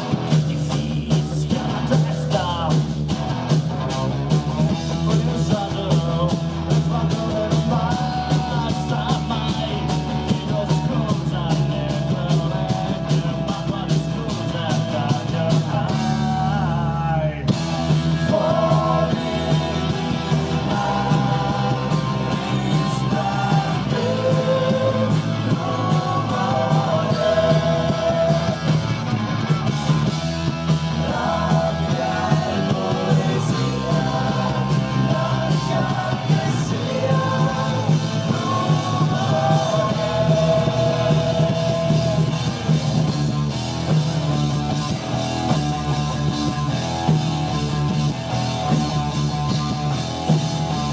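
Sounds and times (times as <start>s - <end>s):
person singing lead vocal: 0.0s - 3.0s, 3.8s - 43.1s
live rock band playing: 0.0s - 50.9s.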